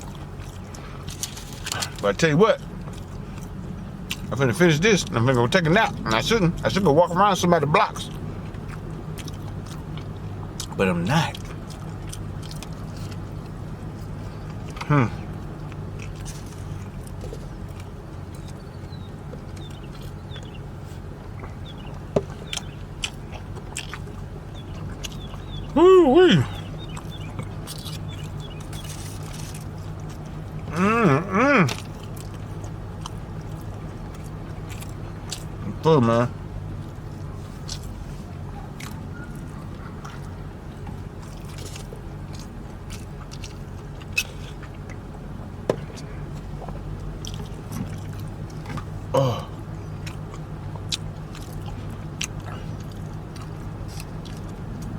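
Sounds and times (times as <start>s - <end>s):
person chewing with wet smacks: 0.0s - 54.9s
steady low hum: 0.0s - 54.9s.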